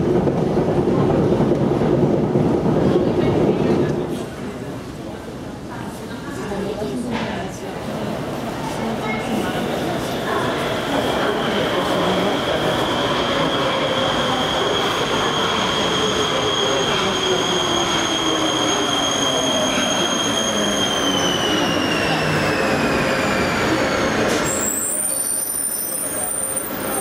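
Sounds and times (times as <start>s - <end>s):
metro train rumbling with whine: 0.0s - 27.0s.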